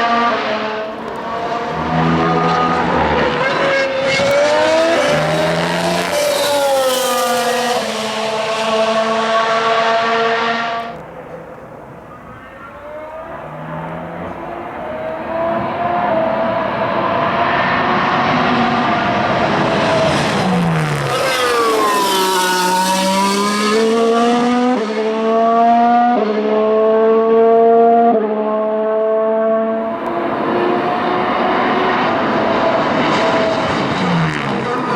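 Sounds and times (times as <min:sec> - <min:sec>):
racing car engine at high revs: 0:00.0 - 0:34.9.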